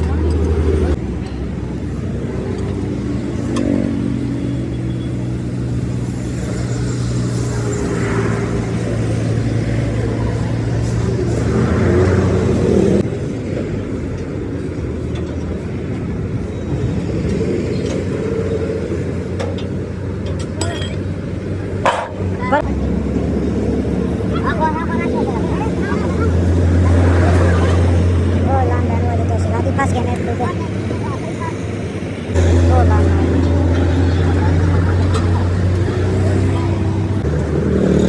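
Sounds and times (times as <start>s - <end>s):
road traffic: 0.0s - 38.0s
vehicle engine humming: 0.0s - 38.0s.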